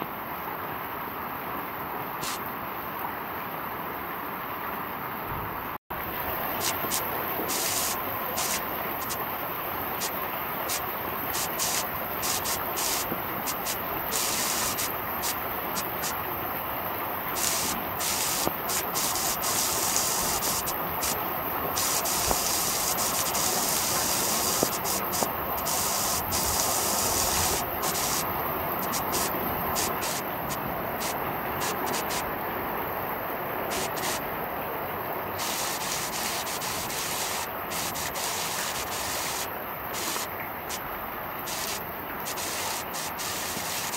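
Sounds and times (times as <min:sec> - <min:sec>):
heavy rain splashing into water: 0:02.2 - 0:02.4, 0:05.9 - 0:43.9.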